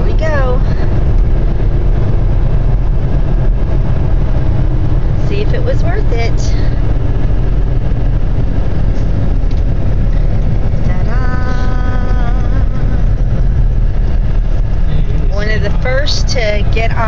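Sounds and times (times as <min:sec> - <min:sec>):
car road and engine rumble: 0:00.0 - 0:17.0
short held whine: 0:00.0 - 0:17.0.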